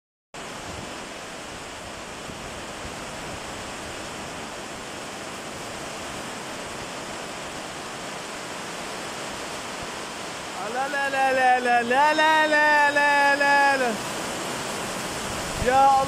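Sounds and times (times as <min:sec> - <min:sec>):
heavy rain on paving stones: 0:00.4 - 0:16.0.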